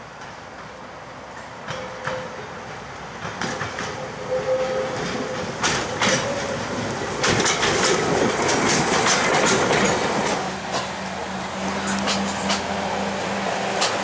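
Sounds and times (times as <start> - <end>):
train wheels clicking over rail joints: 0.1 - 4.2, 4.8 - 14.0.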